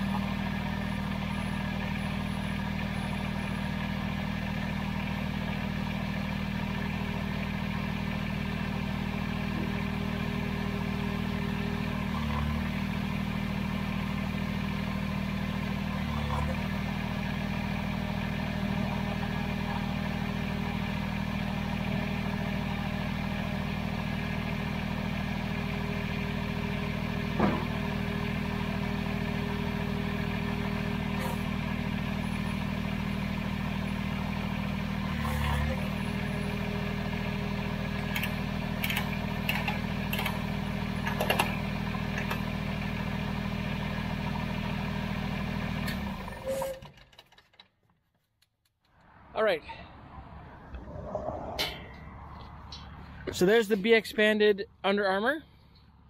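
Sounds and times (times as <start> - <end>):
diesel tractor engine running: 0.0 - 48.2, 48.8 - 56.0.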